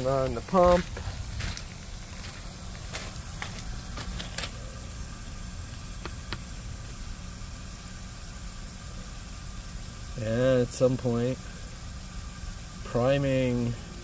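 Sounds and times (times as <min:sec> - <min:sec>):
pool pump humming: 0:00.0 - 0:14.0.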